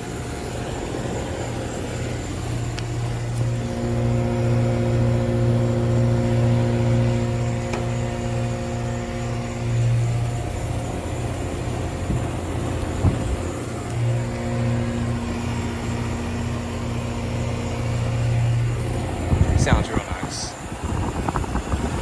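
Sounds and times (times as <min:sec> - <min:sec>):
air conditioner compressor hum: 0:00.0 - 0:22.0
condenser fan rushing: 0:00.0 - 0:22.0.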